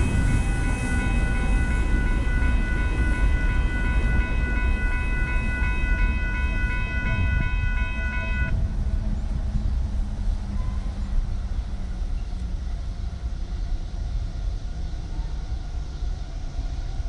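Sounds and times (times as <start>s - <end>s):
faint engine drone: 0.0s - 17.0s
low train rumble: 0.0s - 17.0s.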